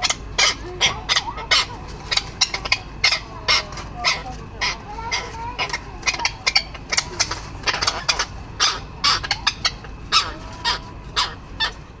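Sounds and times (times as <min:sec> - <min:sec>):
birds giving harsh calls: 0:00.0 - 0:12.0.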